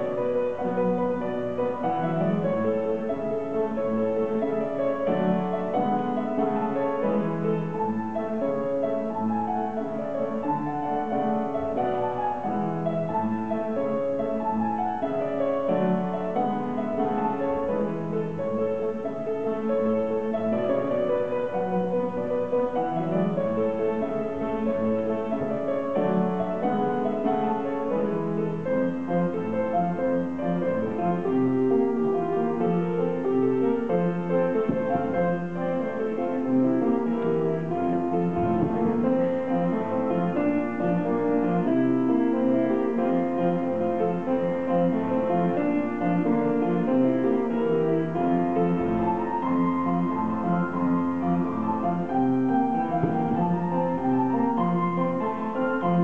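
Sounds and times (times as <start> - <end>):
piano dance tune: 0.0 - 56.0.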